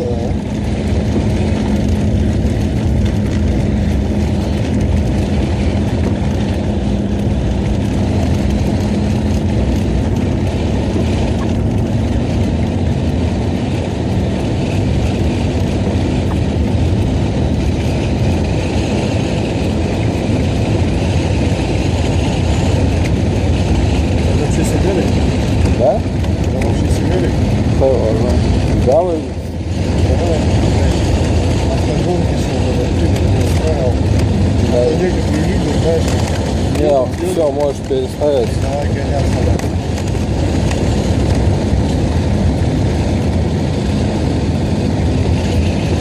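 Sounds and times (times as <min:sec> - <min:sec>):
engine and tyres drone: 0:00.0 - 0:46.0.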